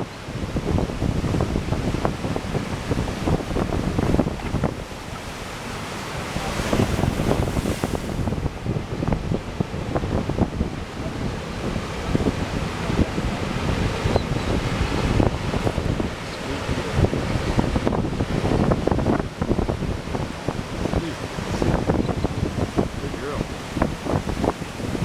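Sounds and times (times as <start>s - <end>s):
ocean surf breaking: 0.0s - 25.0s
wave washing in: 0.0s - 25.0s
wind buffeting microphone: 0.0s - 25.0s.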